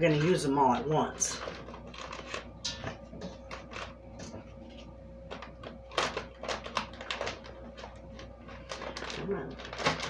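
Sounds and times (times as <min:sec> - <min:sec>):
sprouts knocking and bag rustling: 0:01.4 - 0:10.0.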